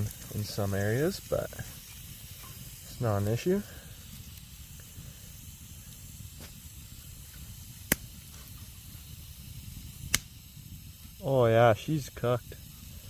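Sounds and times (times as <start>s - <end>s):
campfire hissing softly: 0.0s - 13.0s
fire crackling pop: 0.0s - 13.0s.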